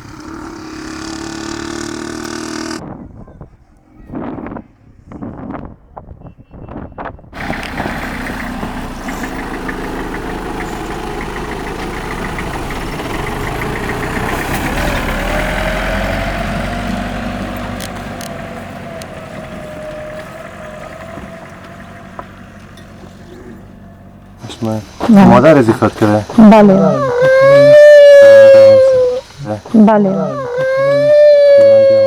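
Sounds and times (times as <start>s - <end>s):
vehicle engine running: 0.0s - 2.8s, 7.4s - 32.0s.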